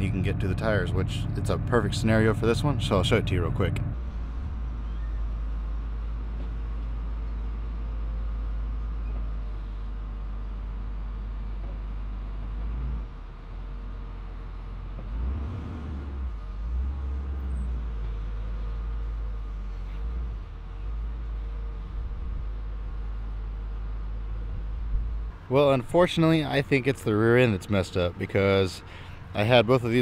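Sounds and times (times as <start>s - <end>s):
wheel loader diesel engine: 0.0s - 30.0s.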